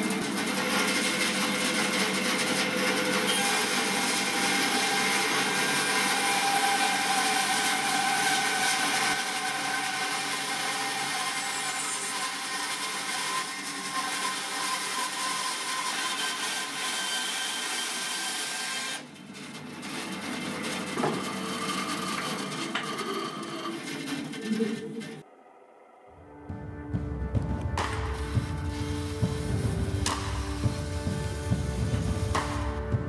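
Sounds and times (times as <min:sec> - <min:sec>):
bandsaw cutting wood: 0:00.0 - 0:25.2, 0:27.8 - 0:33.0.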